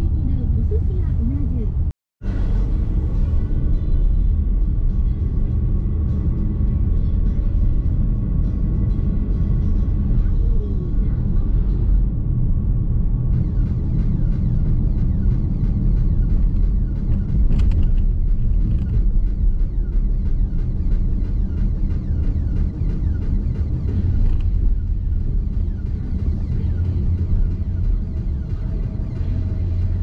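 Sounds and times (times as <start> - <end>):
road and tyre rumble in car: 0.0 - 30.0.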